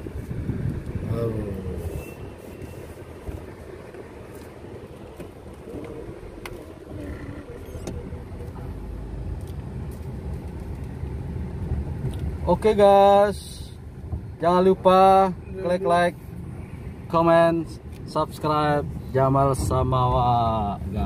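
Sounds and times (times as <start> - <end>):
engine and road noise rumble: 0.0 - 21.0.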